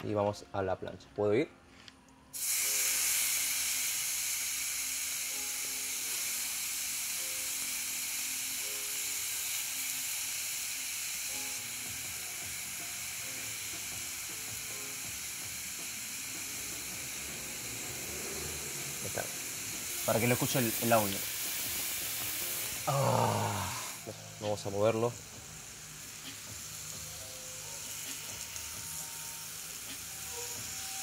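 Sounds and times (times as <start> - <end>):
meat sizzling on grill pan: 2.4 - 31.0.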